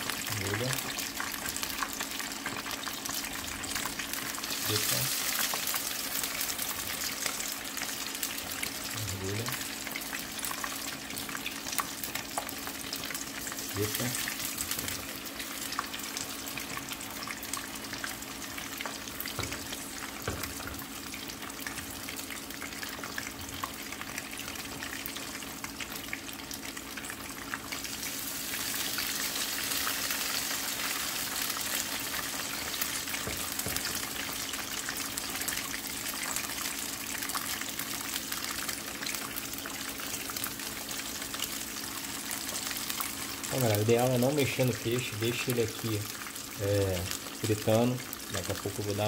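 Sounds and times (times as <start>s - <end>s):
fish sizzling in hot oil: 0.0s - 49.0s.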